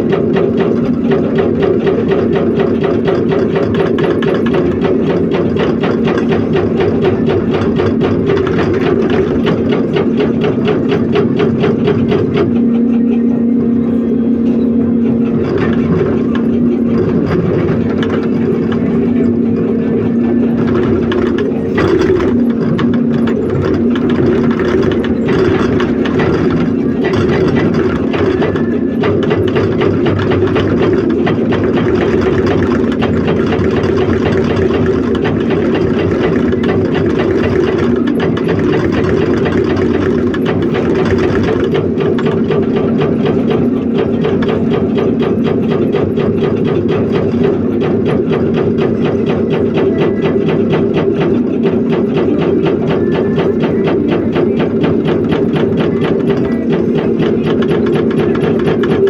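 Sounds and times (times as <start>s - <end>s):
diesel engine running: 0.0s - 59.0s
hydraulic breaker hammering rock: 0.0s - 59.0s.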